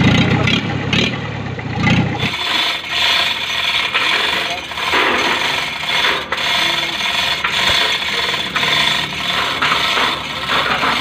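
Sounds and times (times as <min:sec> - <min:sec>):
diesel engine running loudly: 0:00.0 - 0:11.0.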